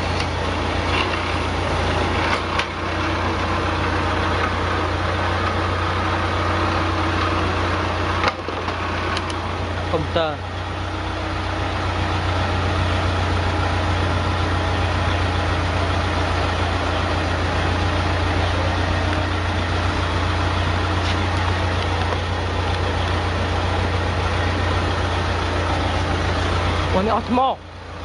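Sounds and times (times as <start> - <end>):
generator engine running: 0.0 - 28.0.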